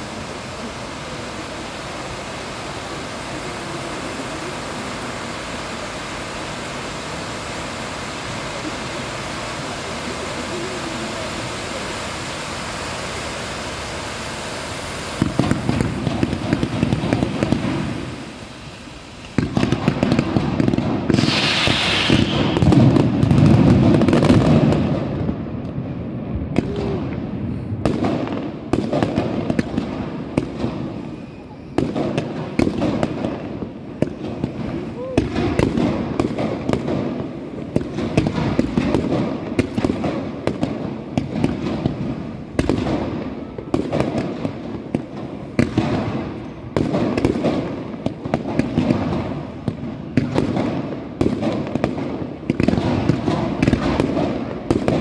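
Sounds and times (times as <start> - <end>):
firework fountains hissing: 0.0 - 55.0
fireworks crackling and banging: 0.0 - 55.0
sharp firework reports: 0.0 - 55.0.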